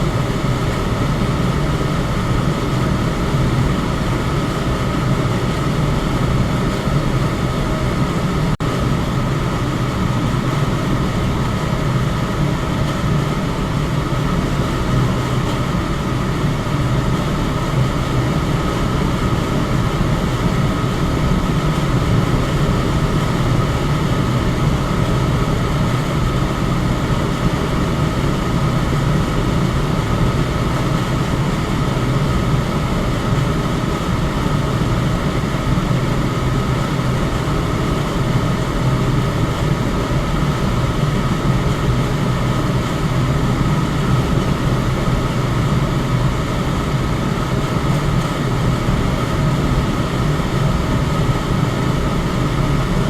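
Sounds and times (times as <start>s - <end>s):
electric fan whoosh: 0.0s - 53.0s
faint fan hum: 0.0s - 53.0s.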